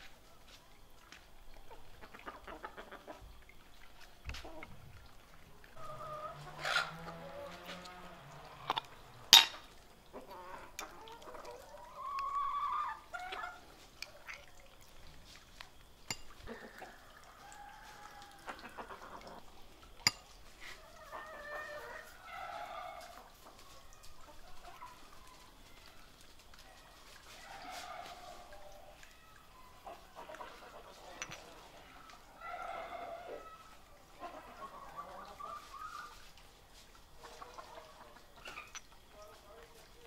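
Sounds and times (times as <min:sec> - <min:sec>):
chickens clucking: 0:01.5 - 0:14.5, 0:15.1 - 0:40.0.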